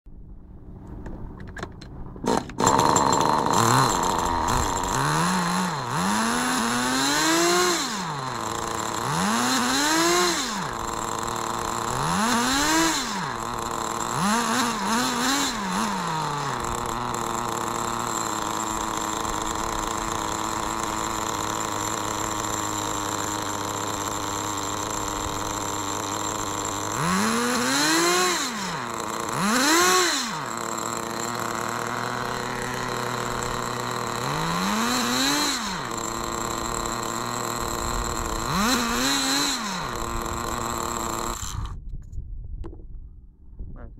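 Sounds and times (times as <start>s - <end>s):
small engine revving and idling: 2.2s - 41.8s.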